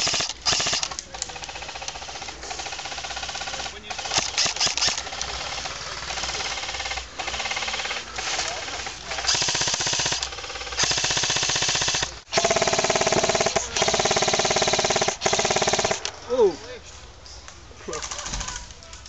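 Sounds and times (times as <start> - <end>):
airsoft guns firing full auto: 0.0 - 16.2.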